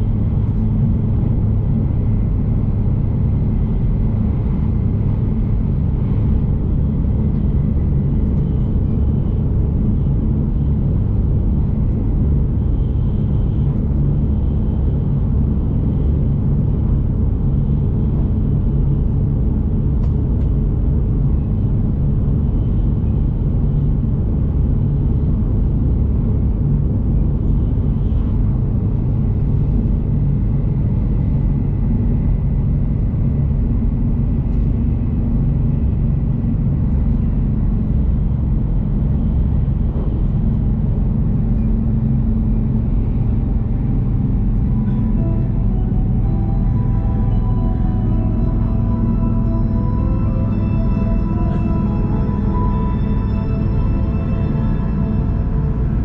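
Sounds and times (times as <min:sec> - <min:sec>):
train running gear rumble: 0:00.0 - 0:56.0.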